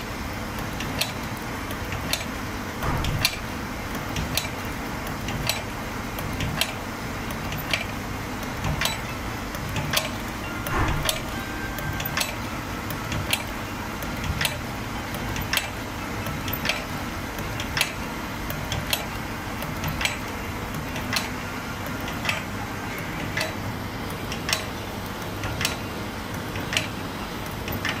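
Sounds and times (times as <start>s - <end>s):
machine motor hum: 0.0s - 28.0s
sharp regular machine clicks: 0.0s - 28.0s.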